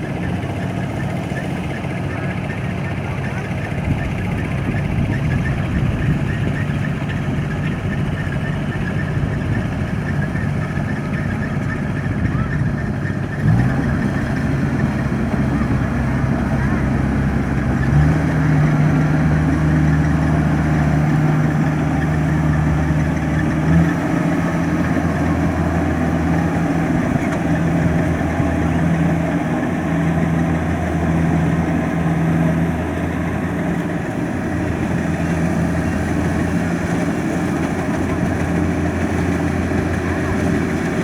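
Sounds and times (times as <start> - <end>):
combine harvester diesel engine running: 0.0 - 41.0.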